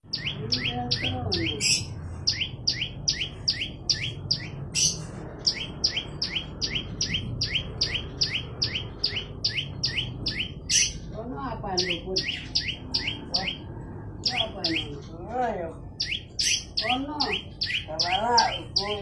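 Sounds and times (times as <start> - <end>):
bird singing sharp chip notes: 0.0 - 11.1, 11.7 - 15.2, 15.8 - 19.0.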